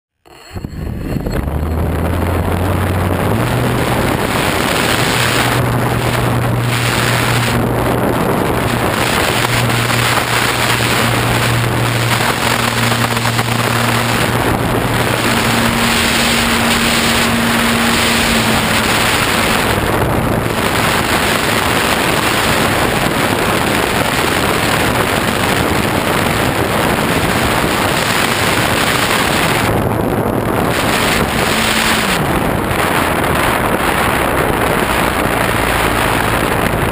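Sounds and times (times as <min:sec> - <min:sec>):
electric motor and propeller drone: 0:00.2 - 0:36.9
wind rushing over microphone: 0:00.2 - 0:36.9.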